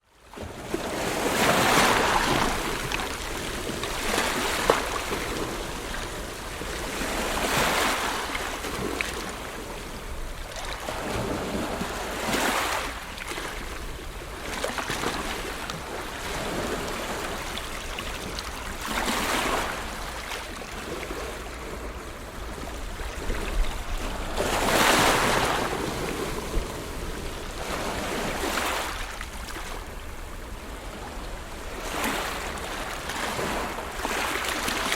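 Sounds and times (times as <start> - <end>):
ocean waves breaking: 0.3 - 34.9.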